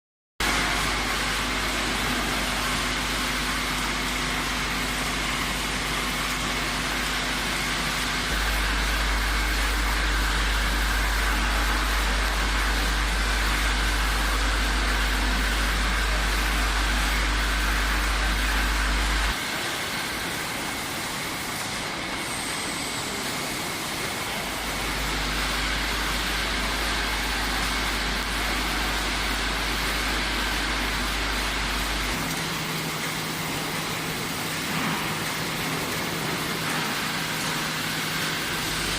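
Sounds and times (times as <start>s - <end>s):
labelling machine droning: 0.4s - 38.9s.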